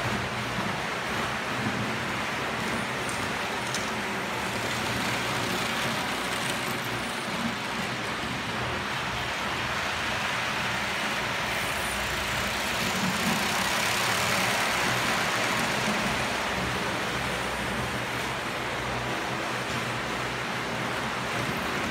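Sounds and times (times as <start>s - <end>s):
model train rumbling on track: 0.0s - 21.9s.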